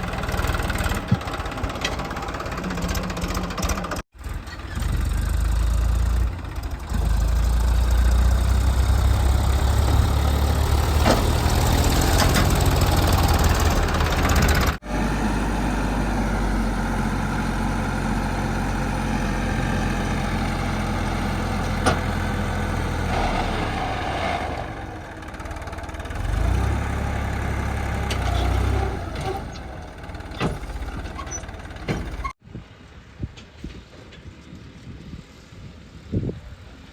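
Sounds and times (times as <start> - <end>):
heavy diesel engine rumbling: 0.0 - 33.0.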